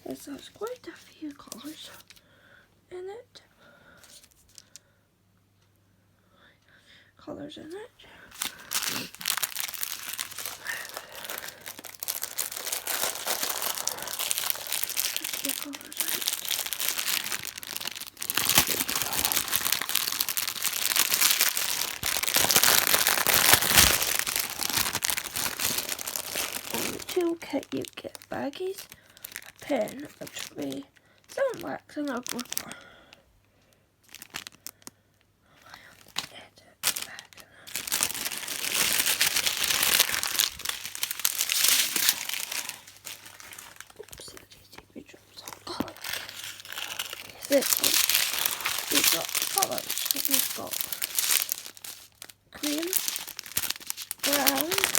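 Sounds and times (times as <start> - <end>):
plastic packaging crinkling: 0.0 - 2.2, 4.0 - 4.8, 8.2 - 33.2, 34.0 - 54.9.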